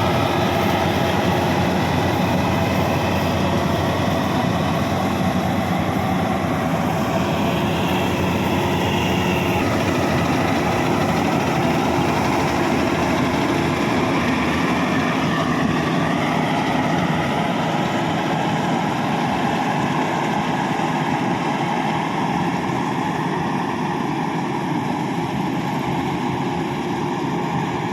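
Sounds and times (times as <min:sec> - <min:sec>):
combine harvester running: 0:00.0 - 0:27.9.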